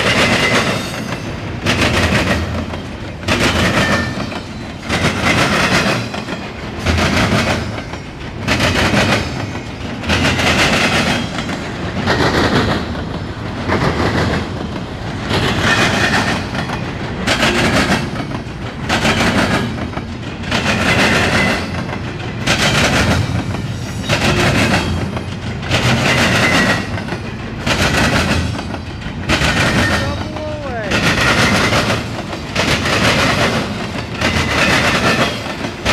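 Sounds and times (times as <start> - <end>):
train wheels clattering over rail joints: 0.0 - 35.9.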